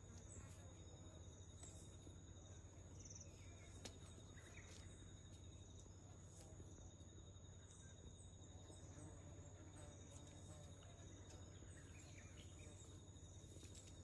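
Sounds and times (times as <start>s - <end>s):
insects calling: 0.0s - 14.0s.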